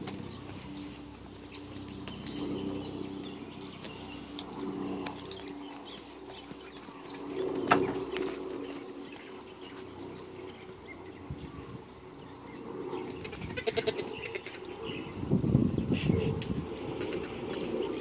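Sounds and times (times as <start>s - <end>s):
doves cooing: 0.0s - 15.2s, 16.0s - 18.0s.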